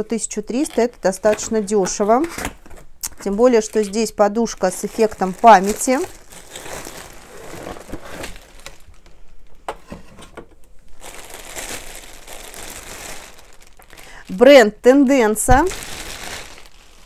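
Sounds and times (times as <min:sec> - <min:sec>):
plastic bag crinkling: 0:00.0 - 0:09.4, 0:10.9 - 0:17.0.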